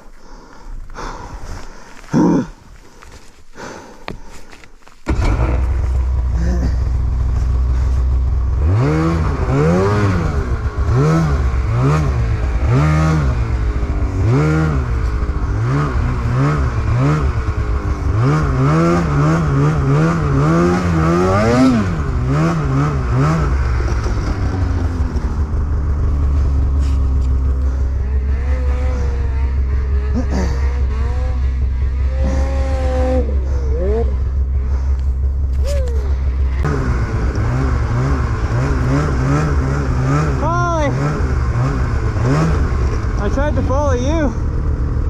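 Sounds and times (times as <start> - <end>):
snowmobile engine revving: 5.0 - 45.0.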